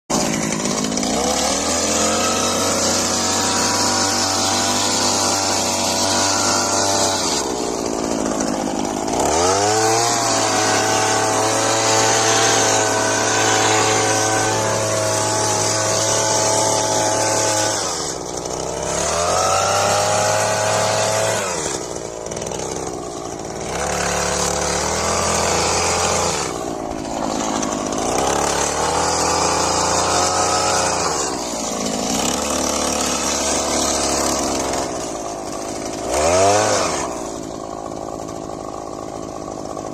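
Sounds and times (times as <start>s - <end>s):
garden power tool engine revving: 0.1s - 39.9s.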